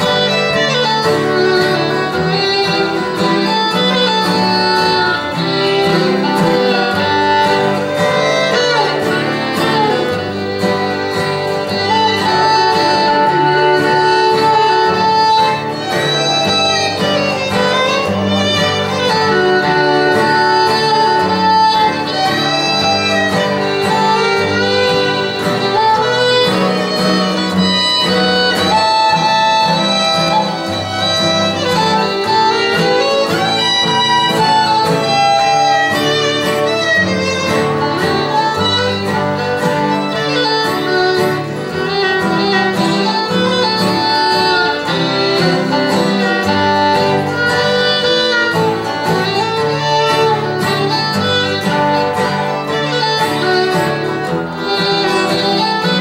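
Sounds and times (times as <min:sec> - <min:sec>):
acoustic guitars strumming: 0:00.0 - 0:56.0
fiddle playing a melody: 0:00.0 - 0:56.0.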